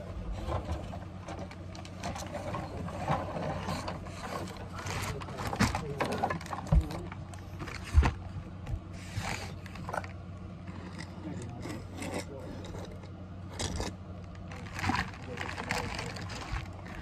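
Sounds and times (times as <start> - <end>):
plastic rubbing and scraping: 0.0 - 17.0.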